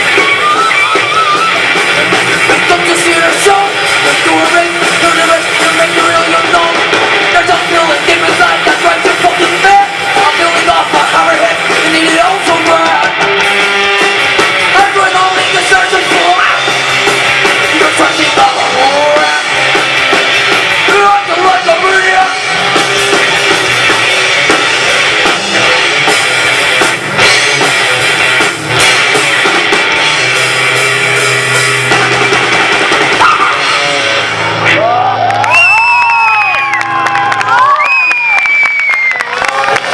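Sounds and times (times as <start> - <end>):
drum kit: 0.0 - 37.8
bass line: 0.0 - 39.9
electric guitar: 0.0 - 39.9.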